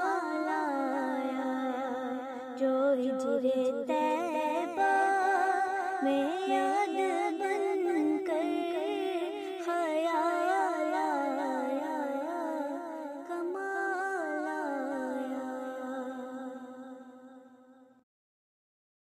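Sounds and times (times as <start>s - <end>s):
person singing unaccompanied: 0.0s - 16.6s.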